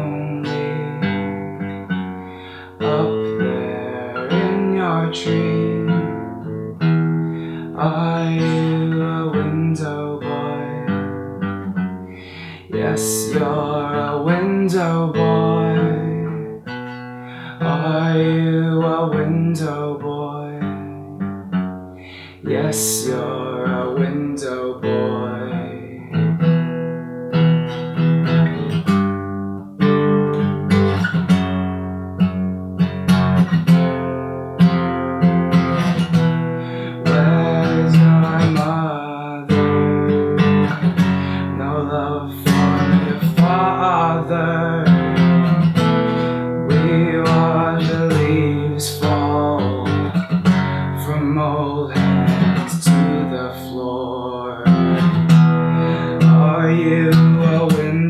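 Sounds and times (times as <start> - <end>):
person singing: 0.0 - 6.5, 7.4 - 21.4, 22.0 - 26.7, 35.5 - 58.0
acoustic guitar strummed and picked: 0.0 - 58.0.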